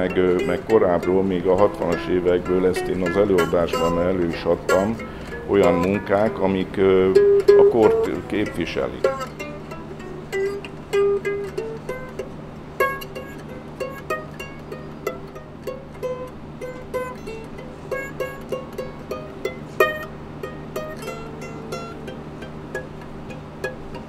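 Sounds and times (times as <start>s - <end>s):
plucked string melody: 0.0s - 24.0s
steady low hum: 0.0s - 24.0s.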